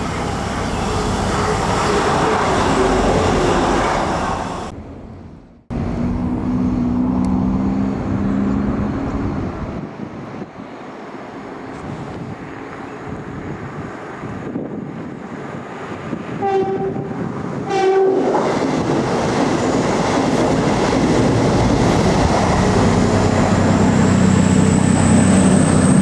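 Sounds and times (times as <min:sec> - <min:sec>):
train engine hum with low tones: 0:00.0 - 0:26.0
train rumbling through station: 0:00.0 - 0:26.0.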